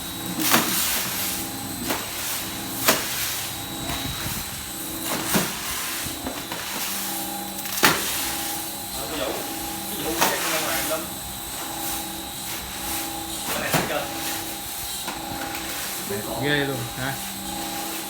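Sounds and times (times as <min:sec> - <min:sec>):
coffee roaster humming: 0:00.0 - 0:18.0.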